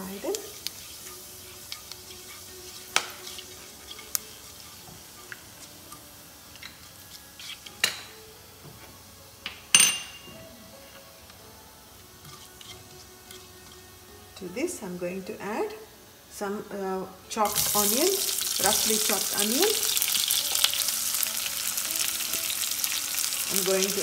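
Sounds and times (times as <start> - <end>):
spices sizzling in oil: 0.0 - 9.2, 11.9 - 15.6, 17.3 - 24.0.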